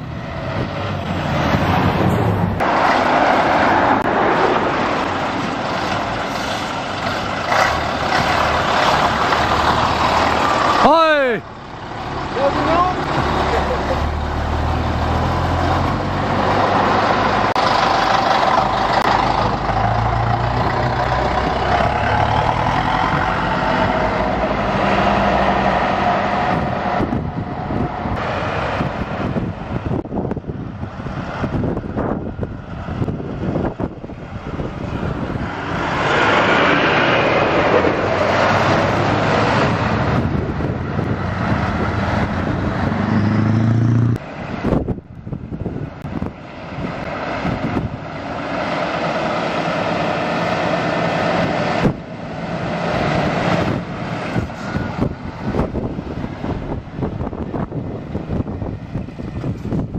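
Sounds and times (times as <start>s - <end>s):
trucks driving past: 0.0s - 59.9s.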